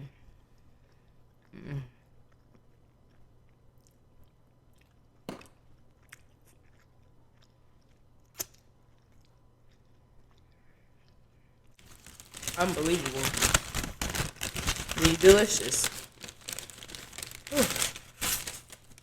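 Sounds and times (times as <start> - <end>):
person chewing food: 0.1 - 15.4, 16.0 - 19.0.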